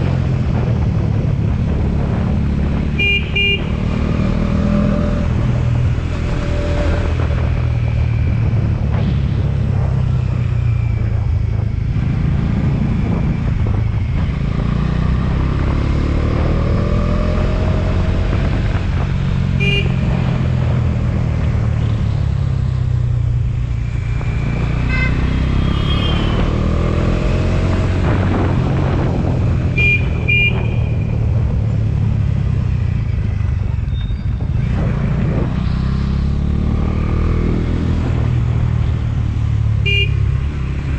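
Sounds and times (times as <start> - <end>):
road and wind noise: 0.0 - 40.9.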